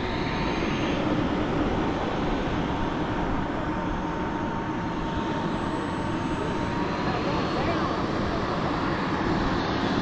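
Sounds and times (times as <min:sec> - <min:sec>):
jet turbine engine whine: 0:00.0 - 0:10.0.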